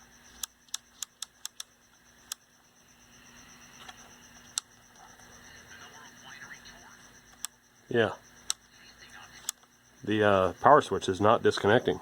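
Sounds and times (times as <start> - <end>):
faint hum from radio: 0.0 - 12.0.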